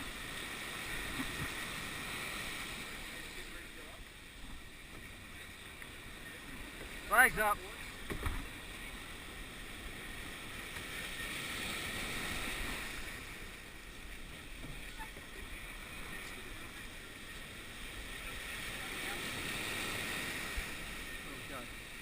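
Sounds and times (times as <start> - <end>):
open water washing: 0.0 - 22.0
wind: 0.0 - 22.0.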